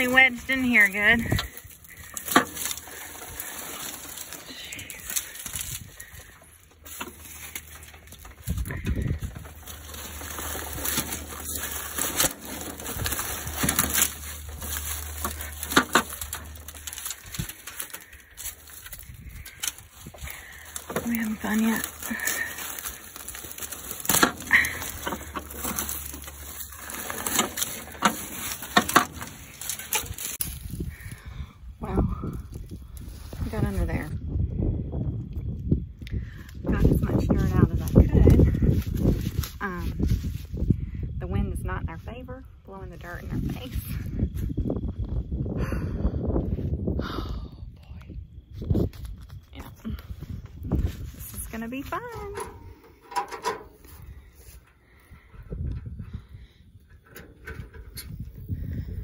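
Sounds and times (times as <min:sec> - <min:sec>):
dry stalks rustling and crackling: 0:00.0 - 0:34.2, 0:35.2 - 0:45.4, 0:47.9 - 0:59.0.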